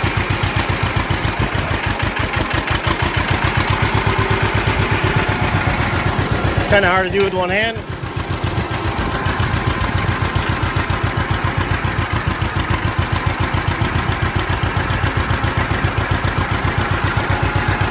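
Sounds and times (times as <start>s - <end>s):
tractor engine putt-putt: 0.0s - 17.9s.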